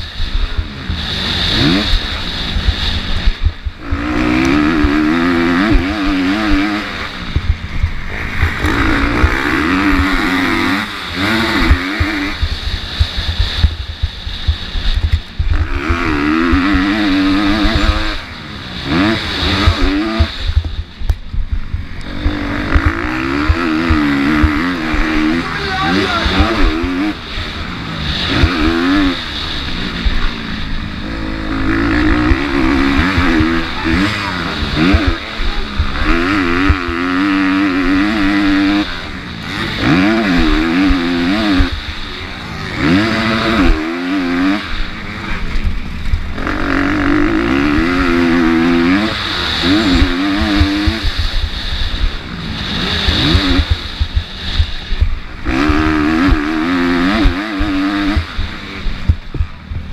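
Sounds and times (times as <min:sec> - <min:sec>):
motocross bike engine accelerating: 0:00.0 - 0:59.9.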